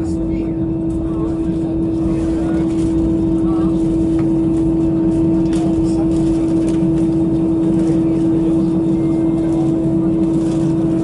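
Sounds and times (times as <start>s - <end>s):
aircraft cabin engine hum: 0.0s - 11.0s
steady droning tone: 0.0s - 11.0s.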